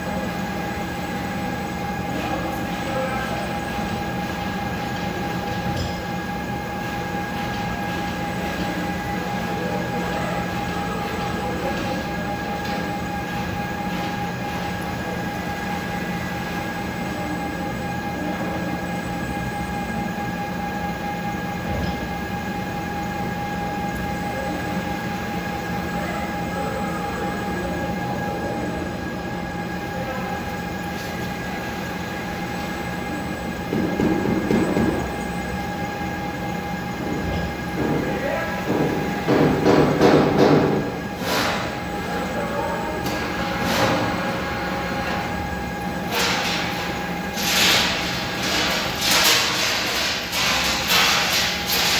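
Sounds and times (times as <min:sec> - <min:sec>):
machinery mechanical hum: 0:00.0 - 0:51.9.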